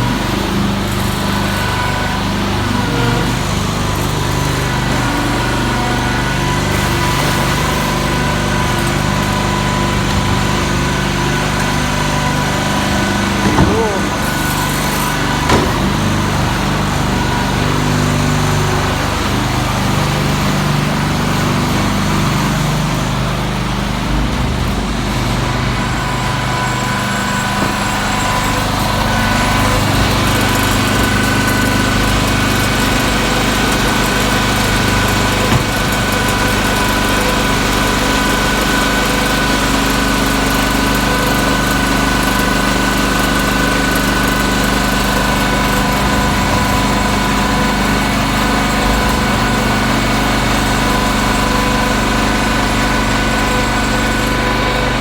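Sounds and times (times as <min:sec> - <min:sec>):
machine engines running: 0:00.0 - 0:55.0.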